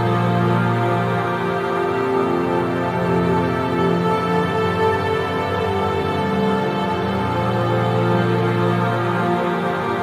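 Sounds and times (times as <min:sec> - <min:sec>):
ambient music with sustained tones: 0:00.0 - 0:10.0.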